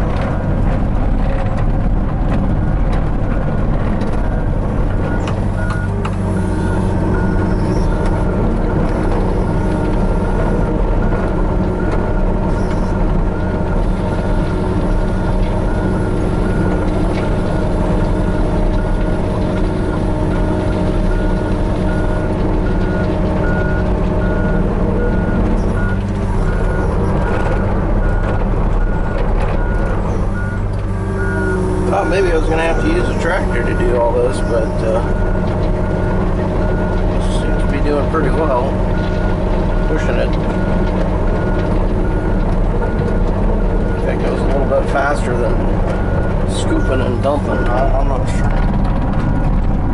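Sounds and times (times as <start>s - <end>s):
diesel engine running: 0.0s - 49.9s
travel alarm beeping: 4.3s - 8.4s, 11.8s - 48.4s.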